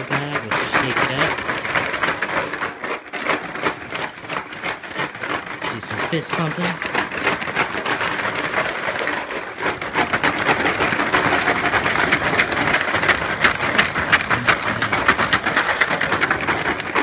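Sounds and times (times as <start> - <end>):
tiles rattling in a bag: 0.0 - 17.0.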